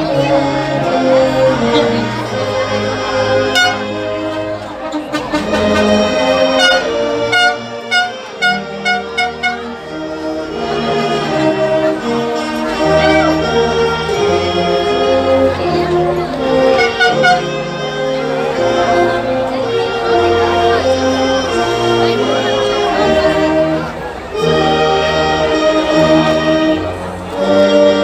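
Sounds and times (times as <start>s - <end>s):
brass band playing slow melody: 0.0s - 28.0s.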